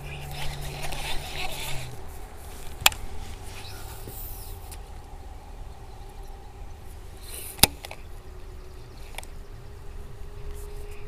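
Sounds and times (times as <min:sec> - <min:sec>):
faint steady hum: 0:00.0 - 0:11.0
wind rumble on microphone: 0:00.0 - 0:11.0.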